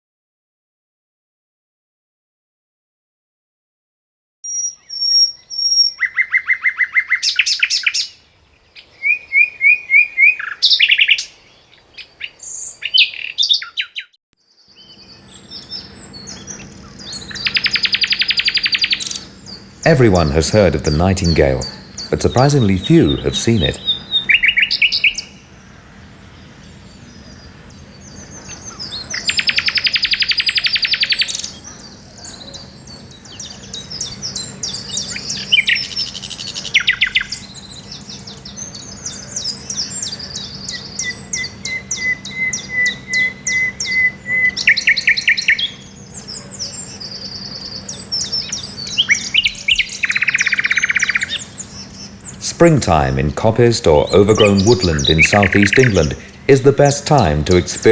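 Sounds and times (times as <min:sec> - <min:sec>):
nightingale singing: 0:04.5 - 0:57.9.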